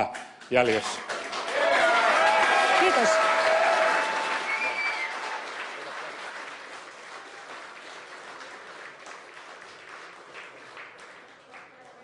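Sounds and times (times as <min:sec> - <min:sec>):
crowd applauding: 0:00.6 - 0:12.0.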